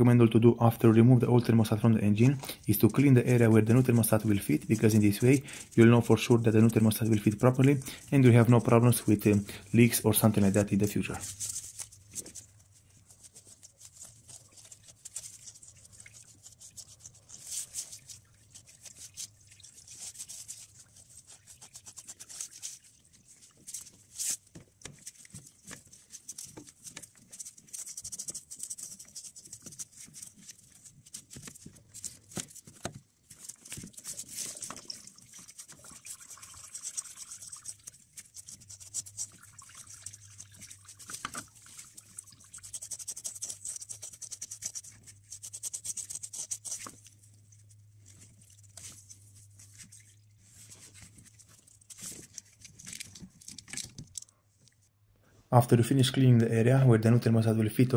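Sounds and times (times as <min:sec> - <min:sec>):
gloved hand scrubbing metal: 0:00.8 - 0:54.3.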